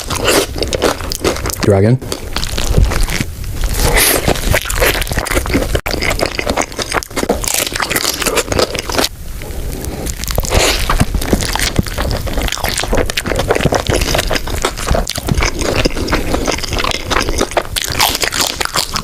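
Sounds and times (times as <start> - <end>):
wet messy chewing: 0.0 - 19.0.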